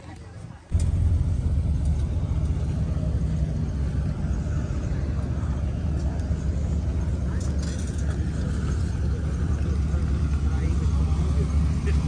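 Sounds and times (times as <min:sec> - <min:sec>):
vehicle engine idling: 0:00.7 - 0:12.0.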